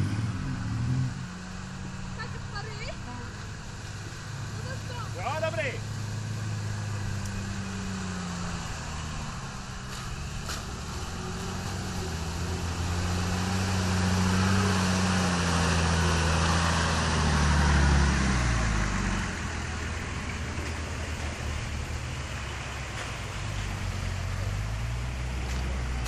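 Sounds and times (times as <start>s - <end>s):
off-road vehicle engine: 0.0s - 26.0s
water splashing around wheels: 0.0s - 26.0s.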